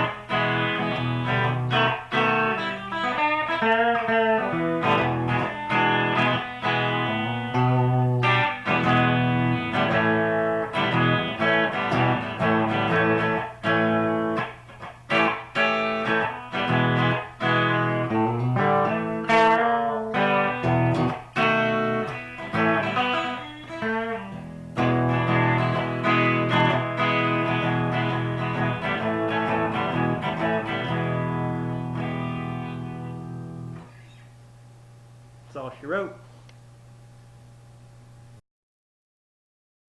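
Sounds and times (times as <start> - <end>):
electric guitar strumming and picking: 0.0 - 34.2.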